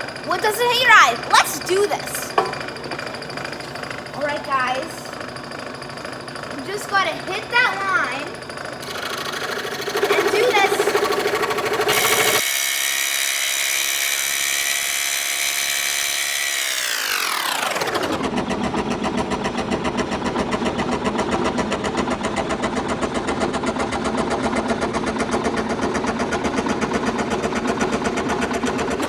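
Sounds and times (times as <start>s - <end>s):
scroll saw cutting wood: 0.0s - 29.0s.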